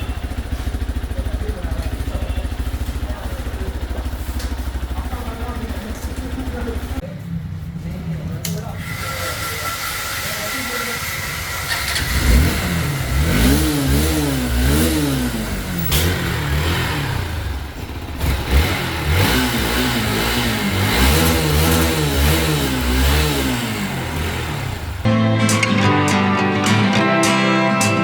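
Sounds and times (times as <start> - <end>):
motorcycle engine revving: 0.0 - 25.1.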